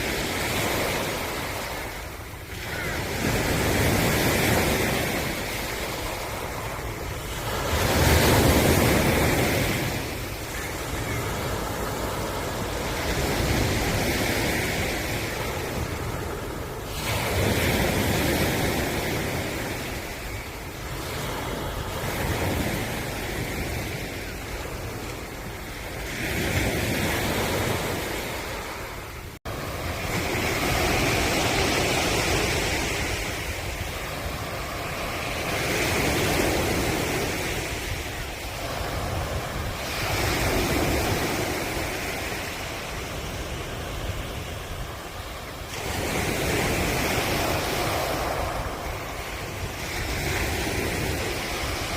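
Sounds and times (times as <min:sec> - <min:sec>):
ocean waves breaking on shore: 0:00.0 - 0:51.9.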